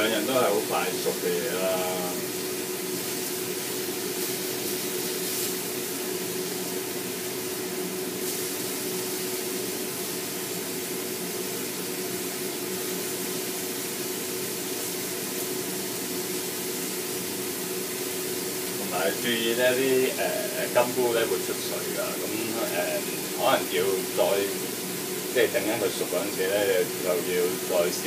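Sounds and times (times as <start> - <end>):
food sizzling in oil: 0.0 - 28.0
steady hum: 0.0 - 28.0.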